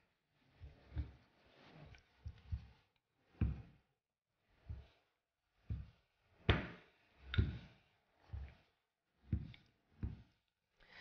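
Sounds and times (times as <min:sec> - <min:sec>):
rolling pin rumbling over dough: 0:00.5 - 0:03.8, 0:04.5 - 0:10.4.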